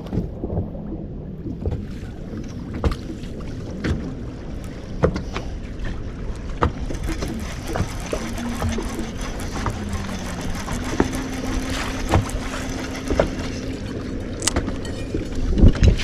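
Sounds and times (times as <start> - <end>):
low engine hum: 0.0 - 16.0
steady wash of water: 0.0 - 16.0.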